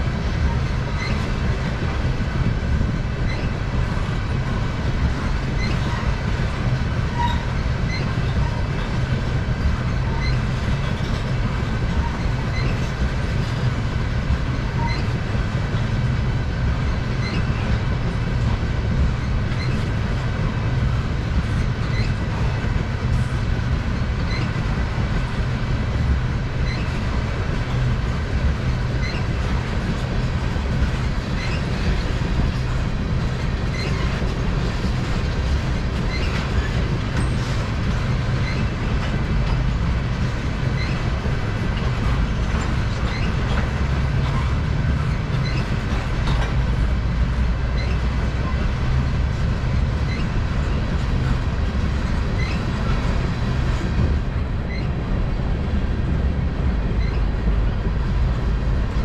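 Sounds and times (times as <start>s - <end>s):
rail clicks: 0.0s - 59.0s
train wheels rumbling on rail: 0.0s - 59.0s.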